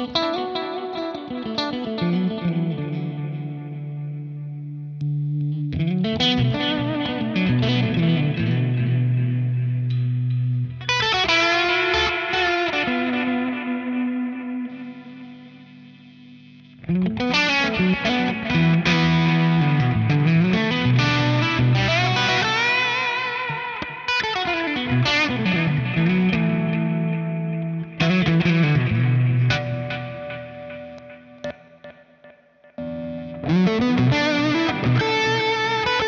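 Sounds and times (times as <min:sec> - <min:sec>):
electric guitar with delay: 0:00.0 - 0:36.0.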